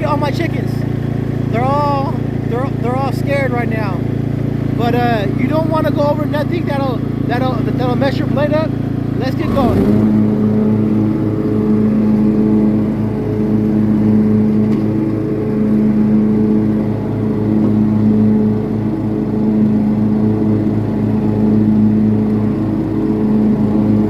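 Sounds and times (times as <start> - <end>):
riding lawn mower engine: 0.0 - 24.0.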